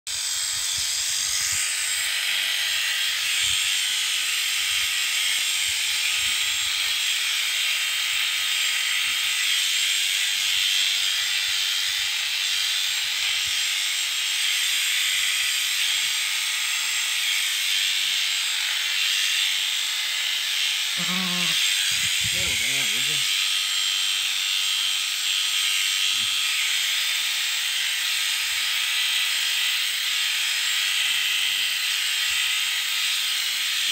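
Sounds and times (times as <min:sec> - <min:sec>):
electric shears buzzing: 0:00.1 - 0:33.9.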